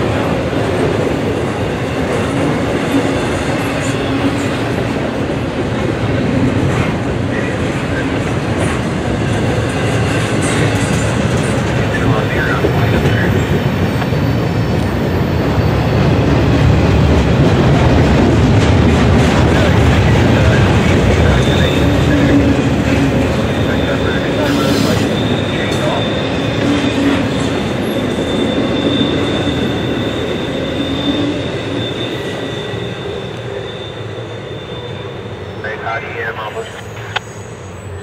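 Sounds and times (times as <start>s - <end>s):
steel wheels running on rails: 0.0s - 35.6s.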